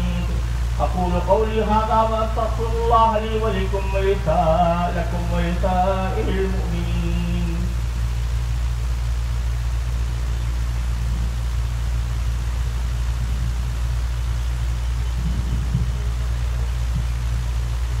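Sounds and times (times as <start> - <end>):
background hiss: 0.0 - 18.0
steady low hum: 0.0 - 18.0.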